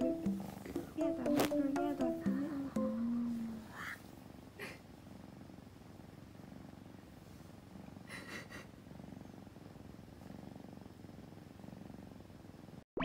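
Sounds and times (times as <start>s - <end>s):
kitten purring: 0.0s - 12.8s.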